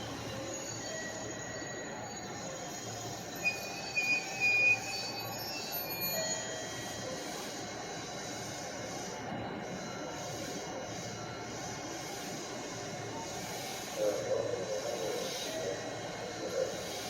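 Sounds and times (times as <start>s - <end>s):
train wheels squealing: 0.0s - 17.0s.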